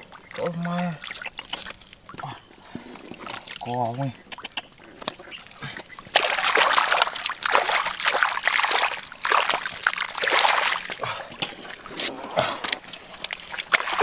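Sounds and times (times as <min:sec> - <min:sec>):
muddy water splashing: 0:00.0 - 0:14.0.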